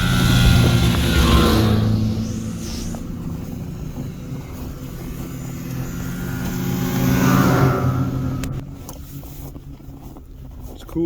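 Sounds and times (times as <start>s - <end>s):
snowmobile engine passing by: 0.0s - 10.3s.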